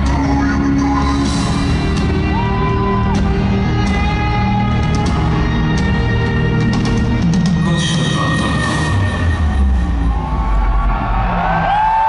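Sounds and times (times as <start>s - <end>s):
live band music over loudspeakers: 0.0s - 10.0s.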